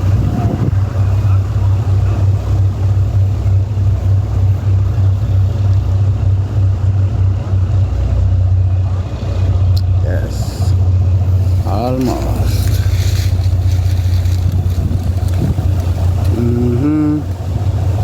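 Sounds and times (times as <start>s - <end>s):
heavy engine droning: 0.0s - 18.0s.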